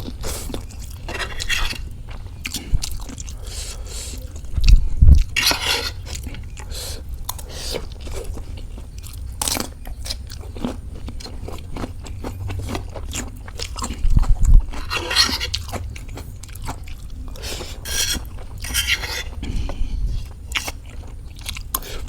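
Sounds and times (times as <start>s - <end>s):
person chewing noodles: 0.0s - 22.0s.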